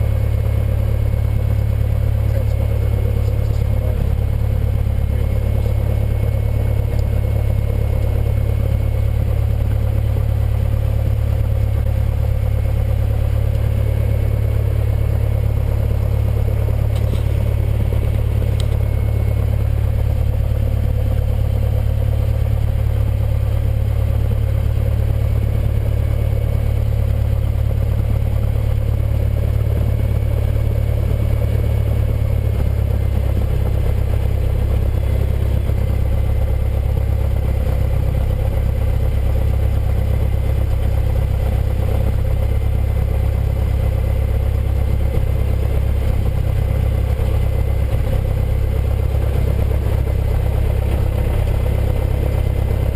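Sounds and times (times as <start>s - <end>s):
propeller plane engine droning: 0.0s - 52.9s.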